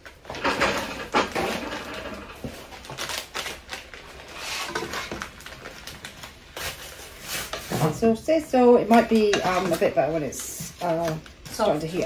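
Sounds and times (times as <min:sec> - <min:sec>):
food preparation rustling and clatter: 0:00.0 - 0:12.0.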